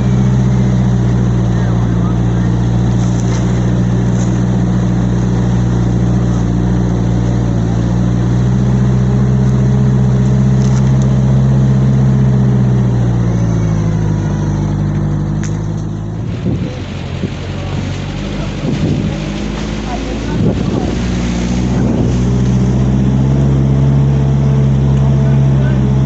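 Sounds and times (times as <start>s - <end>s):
motor engine running: 0.0s - 26.0s.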